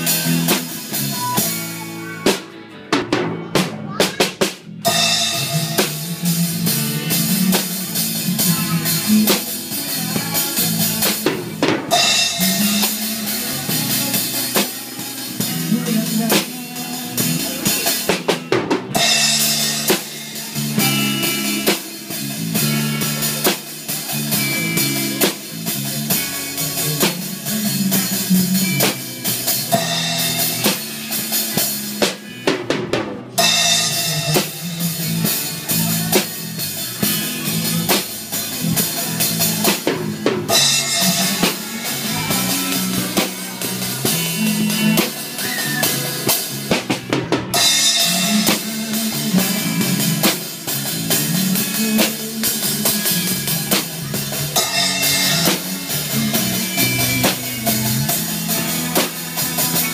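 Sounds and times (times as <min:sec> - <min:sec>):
drum kit: 0:00.0 - 0:59.9
electric guitar notes: 0:04.7 - 0:59.9.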